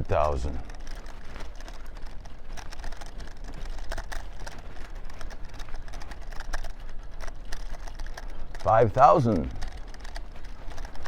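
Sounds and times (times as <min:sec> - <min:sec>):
light clicks and rattles: 0:00.0 - 0:11.0.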